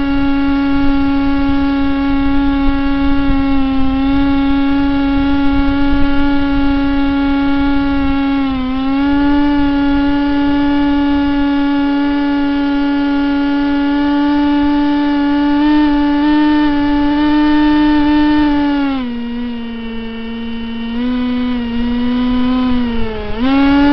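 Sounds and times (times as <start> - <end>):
model airplane motor whining: 0.0 - 23.9
wind rumble on microphone: 0.0 - 23.9.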